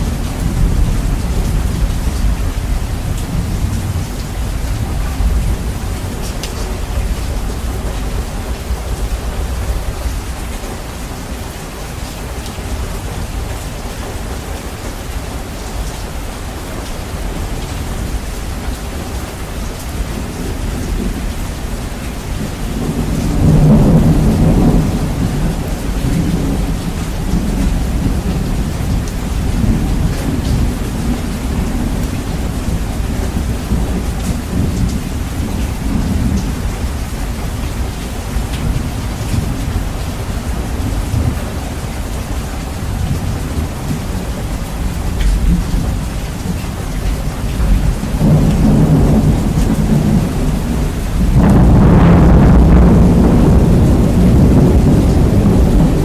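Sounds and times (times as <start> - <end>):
heavy rain: 0.0 - 56.0
thunder rumbling: 0.0 - 56.0.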